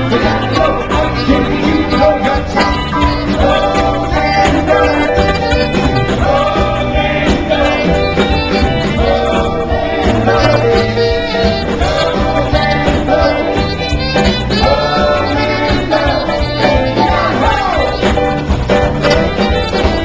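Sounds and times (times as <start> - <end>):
drums: 0.0 - 20.0
electric guitar: 0.0 - 20.0.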